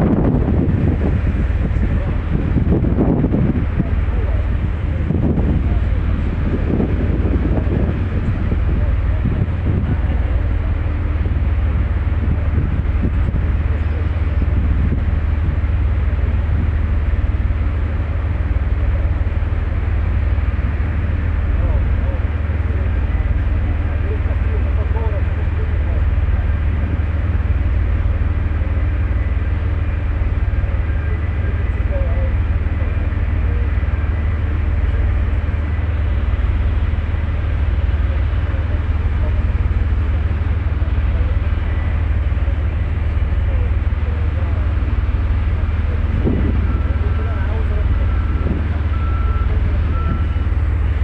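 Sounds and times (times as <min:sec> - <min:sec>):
ferry low rumble: 0:00.0 - 0:51.0
low engine drone: 0:00.0 - 0:51.0.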